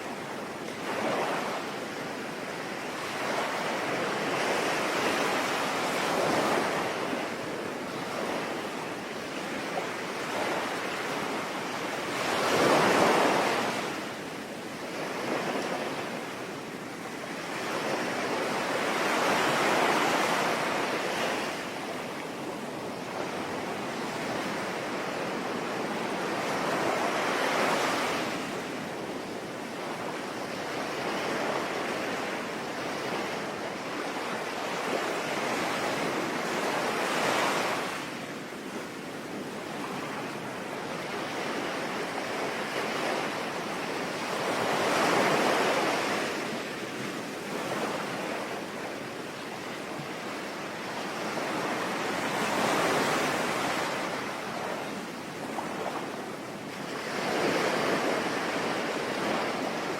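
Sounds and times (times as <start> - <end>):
sea waves washing ashore: 0.0 - 59.9.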